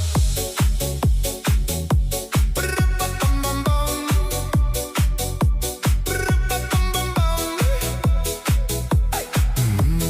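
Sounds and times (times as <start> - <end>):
electronic dance music: 0.0 - 10.0
kick drum beat: 0.0 - 10.0.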